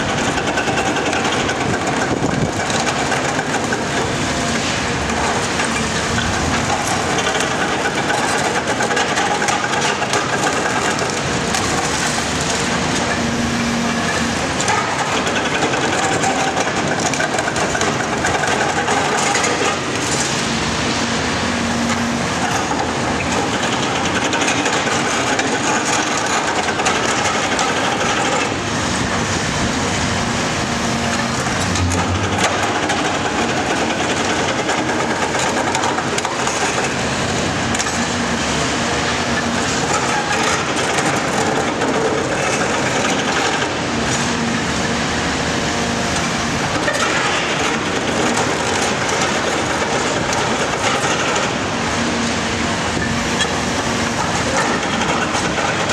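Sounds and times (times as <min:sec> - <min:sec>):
excavator engine running: 0:00.0 - 0:55.9.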